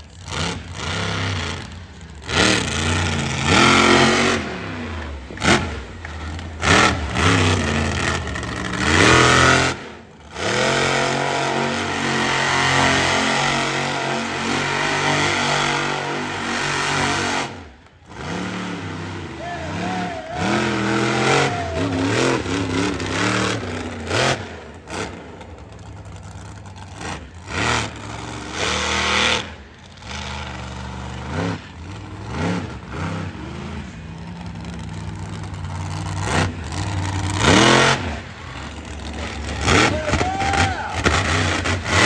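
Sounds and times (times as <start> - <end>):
truck engine revving hard: 0.0 - 42.0.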